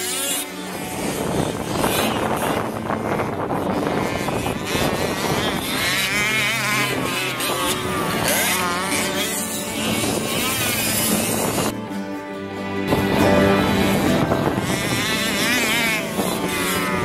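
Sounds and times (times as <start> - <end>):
model car engines revving: 0.0 - 11.8, 13.5 - 17.0.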